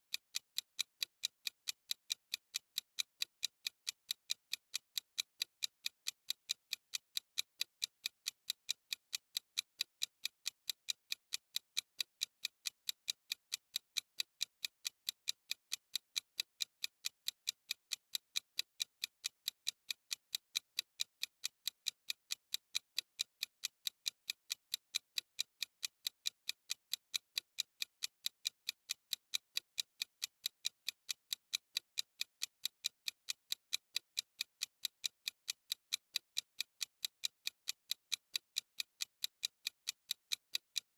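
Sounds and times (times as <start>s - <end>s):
clock ticking: 0.1s - 40.9s.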